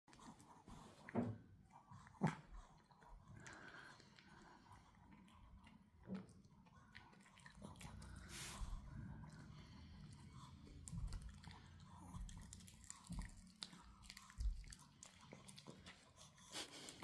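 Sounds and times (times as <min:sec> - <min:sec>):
puppy gnawing a chew: 0:00.1 - 0:17.0.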